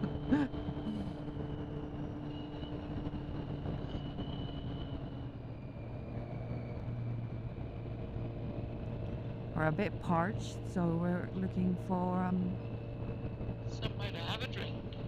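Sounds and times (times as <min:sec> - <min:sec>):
motorcycle engine cruising: 0:00.0 - 0:13.8
wind and road noise: 0:00.0 - 0:15.0.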